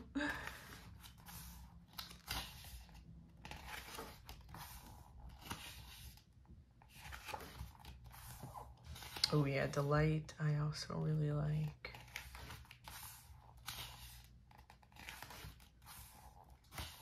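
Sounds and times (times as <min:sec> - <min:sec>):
pages turning: 0:00.0 - 0:09.8, 0:11.6 - 0:17.0.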